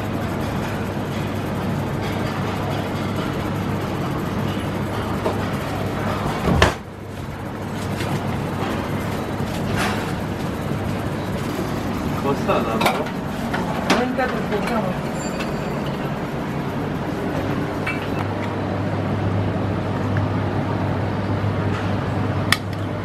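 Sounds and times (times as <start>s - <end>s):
busy kitchen rumble: 0.0s - 23.0s.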